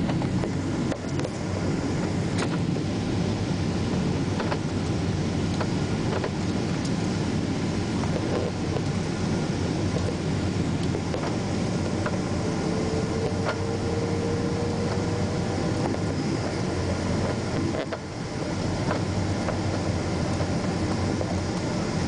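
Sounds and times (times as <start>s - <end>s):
airliner cabin engine noise: 0.0s - 22.0s.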